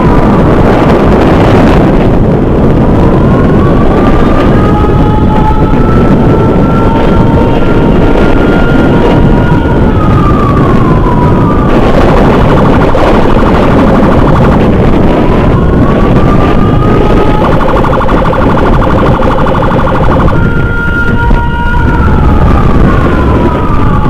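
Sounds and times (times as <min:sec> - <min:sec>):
electronic siren wailing: 0:00.0 - 0:24.0
motorcycle engine and wind: 0:00.0 - 0:24.0.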